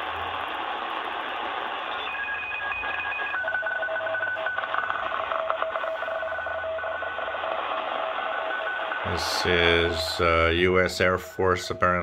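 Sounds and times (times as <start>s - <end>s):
radio static hiss: 0.0s - 12.0s
steady whistling radio tones: 0.2s - 12.0s.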